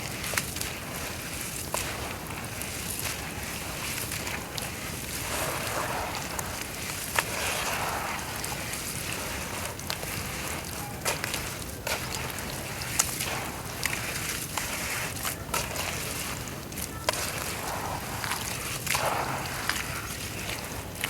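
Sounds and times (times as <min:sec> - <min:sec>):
dirt fizzing in water: 0:00.0 - 0:21.0.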